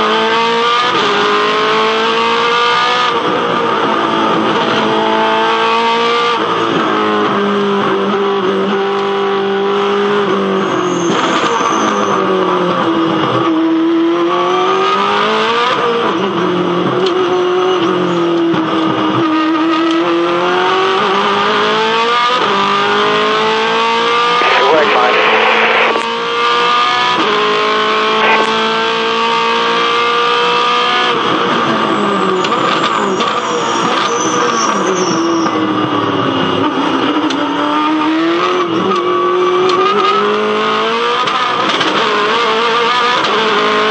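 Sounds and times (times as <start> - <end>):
race car engine at high revs: 0.0 - 43.9.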